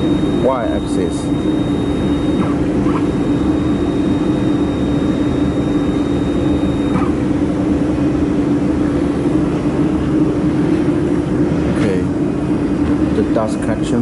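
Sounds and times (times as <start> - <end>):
thin high whine: 0.0 - 12.1
machine fans whirring: 0.0 - 14.0.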